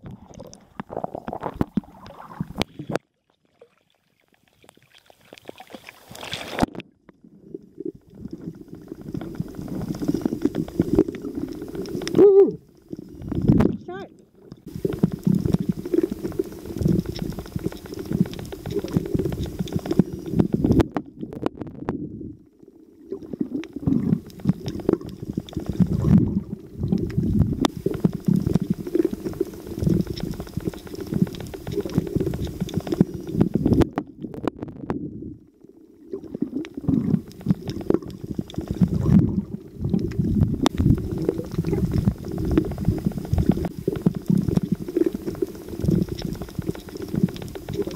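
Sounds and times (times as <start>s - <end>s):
water gurgling: 0.0s - 47.9s
muffled underwater rumble: 6.5s - 47.9s.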